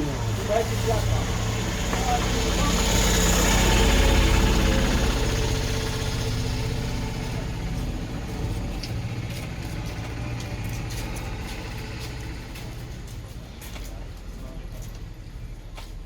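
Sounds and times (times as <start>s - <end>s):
vehicle engine running: 0.0s - 15.7s.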